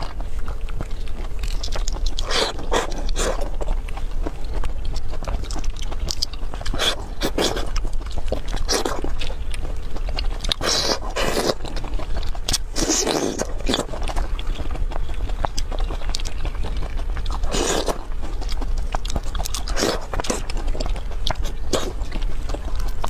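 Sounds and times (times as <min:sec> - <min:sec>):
wet mouth eating sounds: 0:00.0 - 0:23.0.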